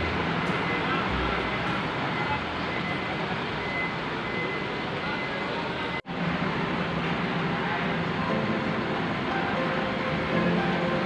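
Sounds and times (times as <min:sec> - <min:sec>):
diesel bus engine rumbling: 0:00.0 - 0:11.0.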